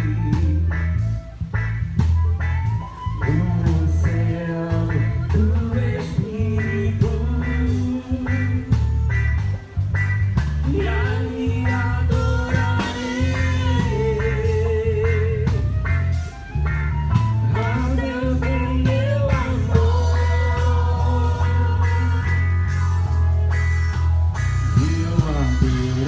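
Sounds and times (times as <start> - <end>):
music with heavy bass: 0.0 - 26.0.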